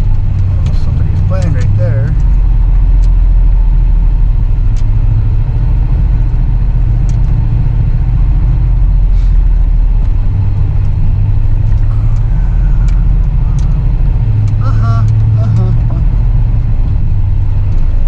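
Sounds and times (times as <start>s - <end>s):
truck engine drone from inside cab: 0.0s - 18.0s.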